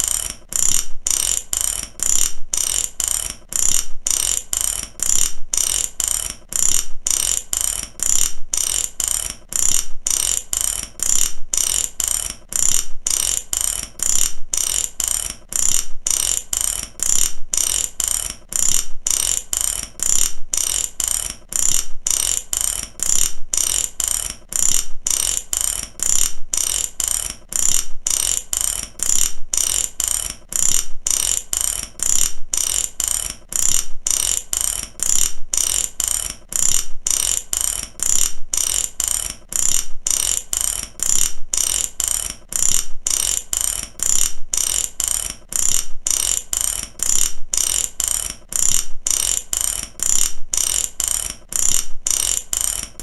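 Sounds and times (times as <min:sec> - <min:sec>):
ratchet wrench clicking: 0:00.0 - 0:53.0.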